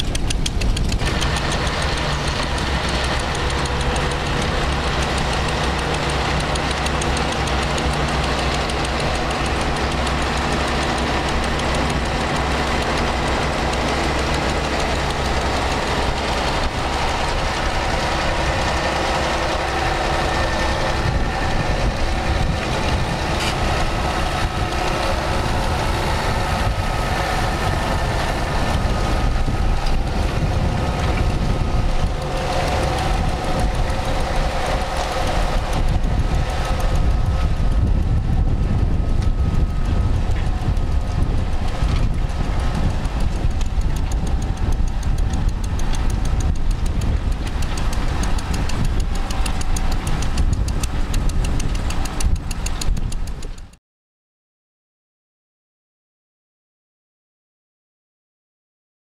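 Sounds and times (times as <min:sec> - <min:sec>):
old engines rumbling: 0:00.0 - 0:53.8.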